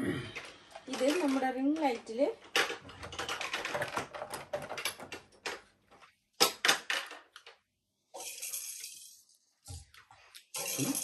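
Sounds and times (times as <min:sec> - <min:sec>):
plastic parts clicking and clattering: 0:00.4 - 0:11.0.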